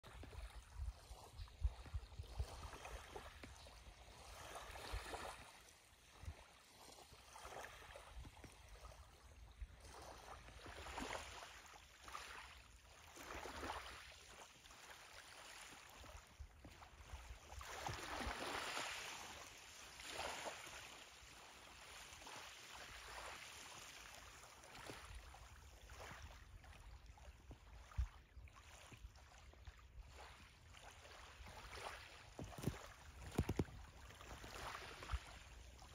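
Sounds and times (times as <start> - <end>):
small waves lapping: 0.0 - 35.9.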